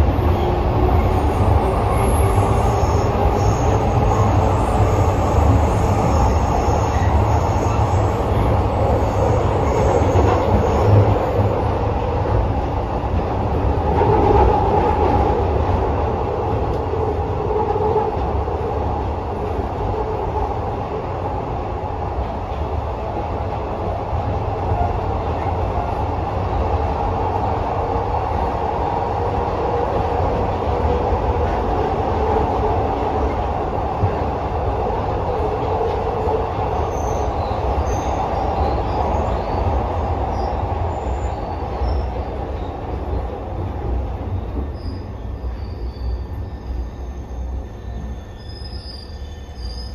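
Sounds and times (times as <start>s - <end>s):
train rumbling through tunnel: 0.0s - 49.9s.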